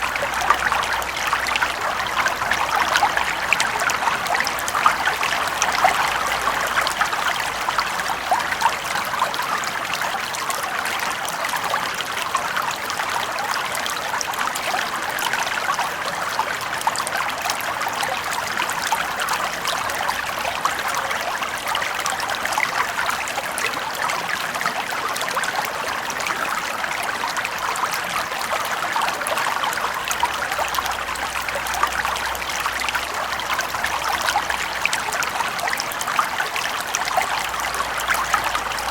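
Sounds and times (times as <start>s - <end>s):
brook water trickling over stones: 0.0s - 38.9s.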